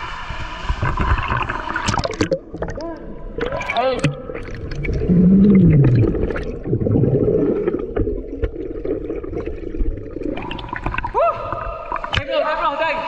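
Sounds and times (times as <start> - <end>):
underwater water rumble: 0.0 - 12.2
underwater clicks and gurgles: 0.0 - 12.4.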